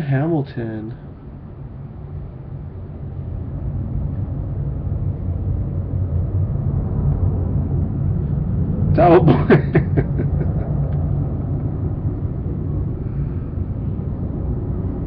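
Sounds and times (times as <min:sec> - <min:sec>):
low rumble: 0:00.6 - 0:15.0.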